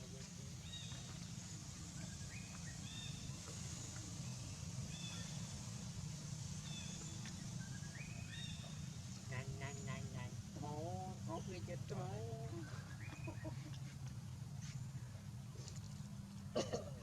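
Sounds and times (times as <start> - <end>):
steady low rumble: 0.0 - 16.6.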